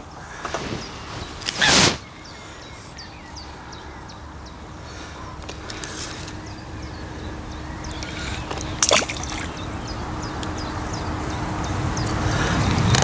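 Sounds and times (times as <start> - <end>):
small birds chirping: 0.0 - 13.0
faint steady hum: 2.1 - 13.0.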